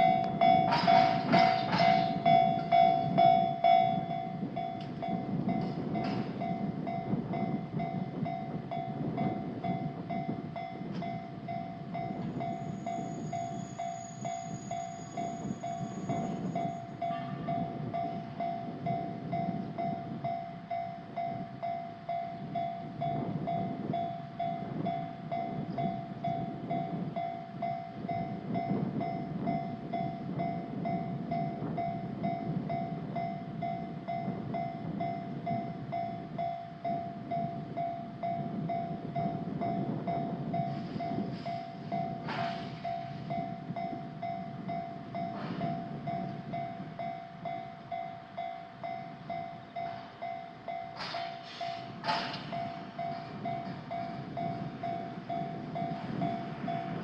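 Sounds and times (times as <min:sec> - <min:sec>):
railroad crossing bell ringing: 0:00.0 - 0:57.0
train rumbling past: 0:00.0 - 0:57.0.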